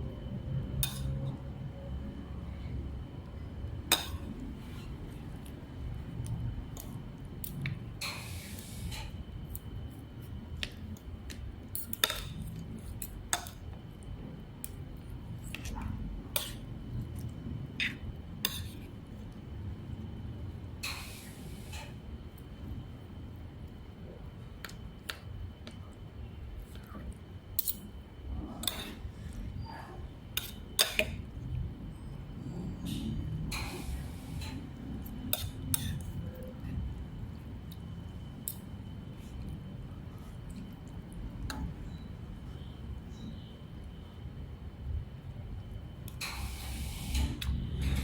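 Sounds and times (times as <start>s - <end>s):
steady low rumble: 0.0s - 20.9s, 22.0s - 46.2s.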